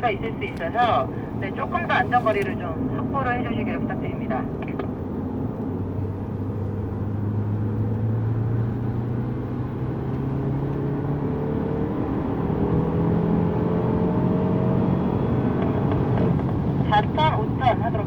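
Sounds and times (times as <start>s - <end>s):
car engine under load: 0.0s - 18.0s.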